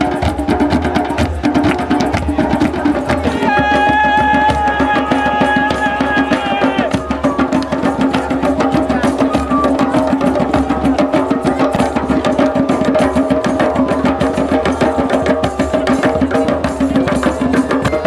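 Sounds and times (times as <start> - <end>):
hand drums playing fast rhythm: 0.0 - 18.0.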